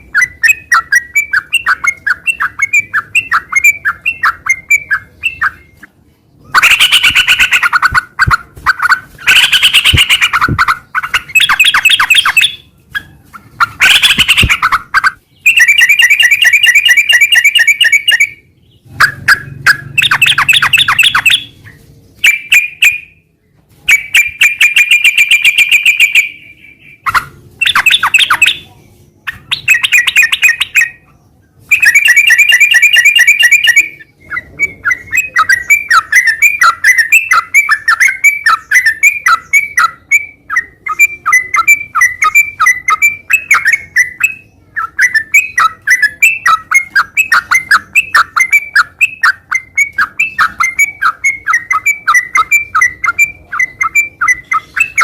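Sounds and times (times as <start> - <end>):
bulbul singing trills: 0.0 - 23.3, 27.6 - 55.0.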